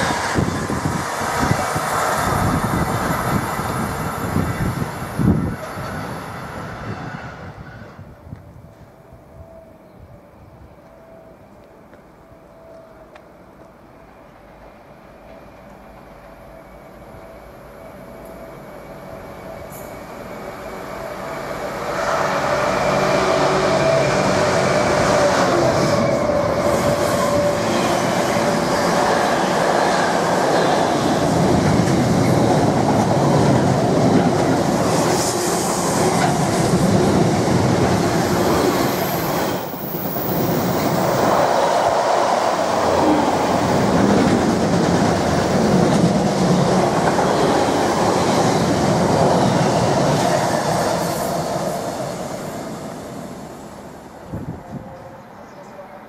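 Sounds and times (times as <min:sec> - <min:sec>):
rush of wheels on rail: 0:00.0 - 0:08.9, 0:18.2 - 0:54.9
freight train passing: 0:00.0 - 0:56.0.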